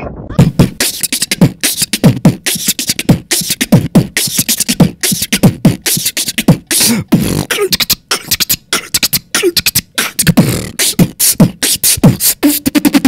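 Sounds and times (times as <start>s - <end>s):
beatbox-style beat: 0.4s - 13.0s.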